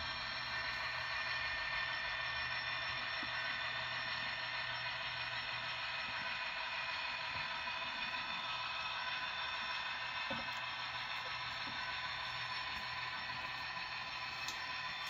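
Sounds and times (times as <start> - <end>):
model train motor humming: 0.0 - 15.0.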